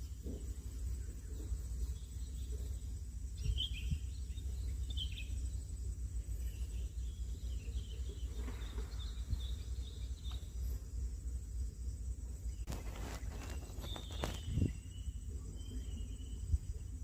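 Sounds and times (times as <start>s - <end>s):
bird chirps: 0.0s - 17.0s
low outdoor rumble: 0.0s - 17.0s.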